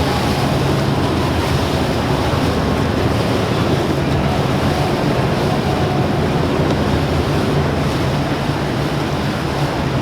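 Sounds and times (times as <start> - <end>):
motorboat engines humming: 0.0 - 10.0
water rushing: 0.0 - 10.0.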